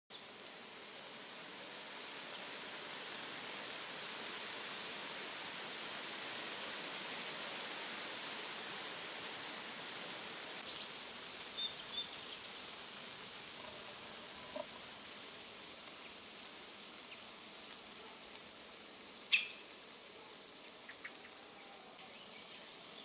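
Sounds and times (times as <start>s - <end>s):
outdoor ambient hiss: 0.1s - 23.0s.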